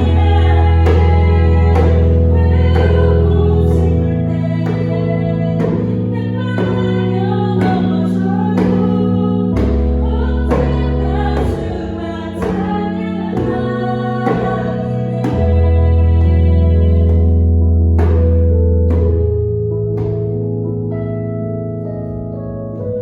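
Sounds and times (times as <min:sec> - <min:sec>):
person singing: 0:00.0 - 0:19.2
bass notes: 0:00.0 - 0:23.0
keyboard chords: 0:00.0 - 0:23.0.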